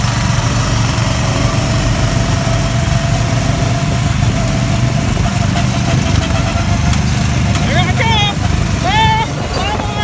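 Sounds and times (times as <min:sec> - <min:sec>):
go-kart engines droning: 0:00.0 - 0:10.0.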